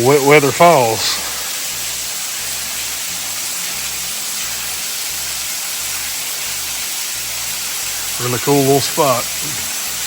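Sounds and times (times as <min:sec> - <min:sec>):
small waterfall splashing: 0:00.0 - 0:10.0.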